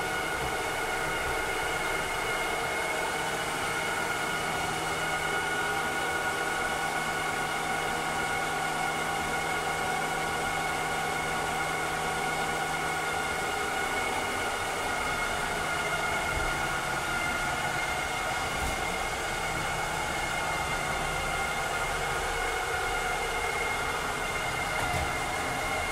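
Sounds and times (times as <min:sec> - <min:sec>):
robotic vacuum cleaner whine: 0:00.0 - 0:25.9.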